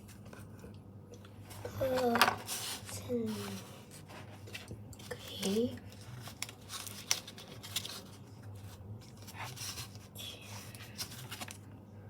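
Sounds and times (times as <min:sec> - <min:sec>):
paper rustling: 0:01.6 - 0:11.6.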